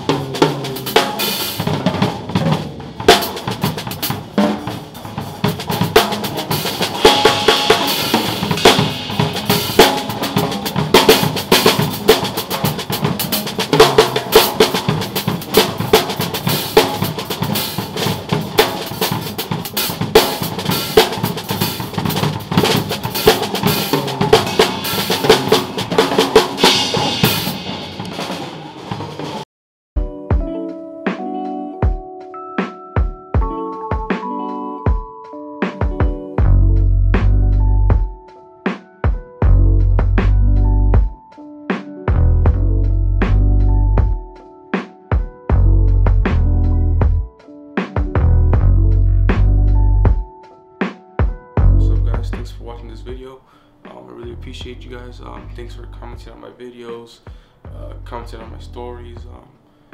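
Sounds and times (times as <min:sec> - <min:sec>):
drum kit playing fast: 0:00.0 - 0:59.5.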